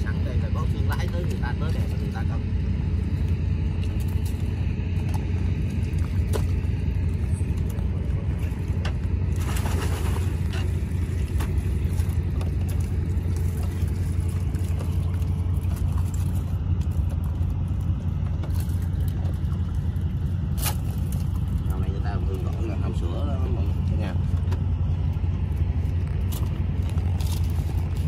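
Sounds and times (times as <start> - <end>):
low motor drone: 0.0 - 28.0.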